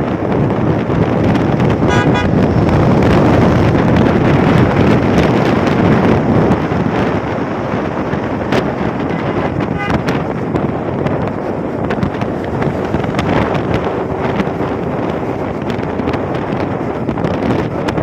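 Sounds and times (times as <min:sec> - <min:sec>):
road noise: 0:00.0 - 0:18.0
wind roaring over microphone: 0:00.0 - 0:18.0.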